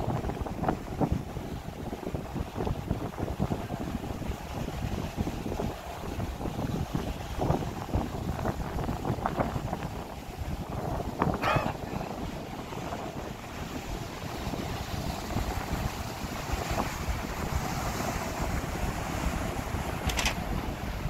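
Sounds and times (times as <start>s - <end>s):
boat wake churning water: 0.0s - 21.0s
wind buffeting microphone: 0.0s - 21.0s.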